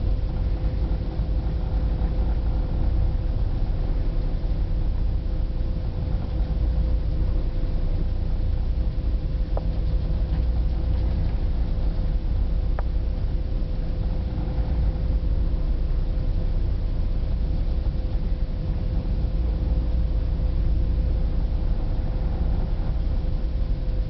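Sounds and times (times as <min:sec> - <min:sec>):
faint hum: 0:00.0 - 0:24.0
ferry engine and hull rumble: 0:00.0 - 0:24.0.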